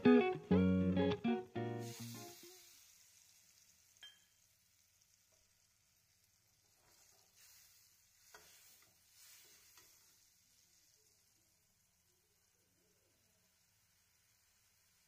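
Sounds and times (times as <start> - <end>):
light sizzle: 0.0 - 15.0.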